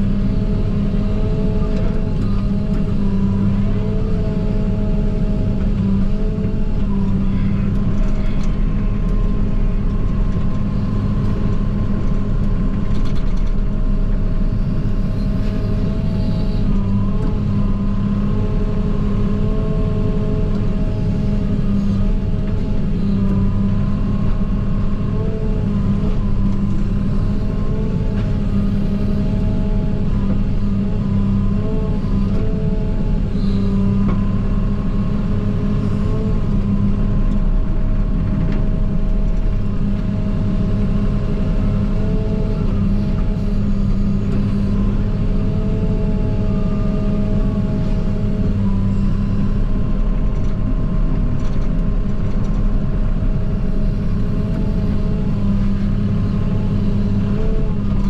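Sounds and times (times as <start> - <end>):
diesel excavator engine running: 0.0 - 58.0.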